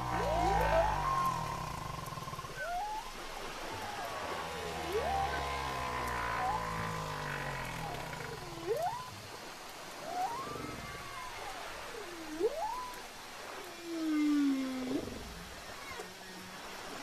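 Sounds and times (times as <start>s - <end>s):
whale calls: 0.0s - 17.0s.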